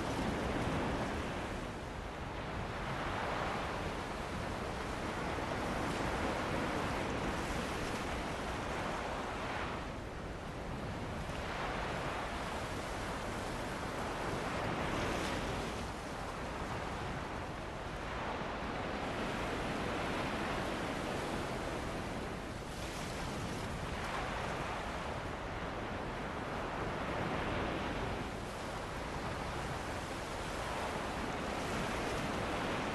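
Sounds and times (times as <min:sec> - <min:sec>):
ocean waves washing onto shore: 0:00.0 - 0:32.9
wind: 0:00.0 - 0:32.9.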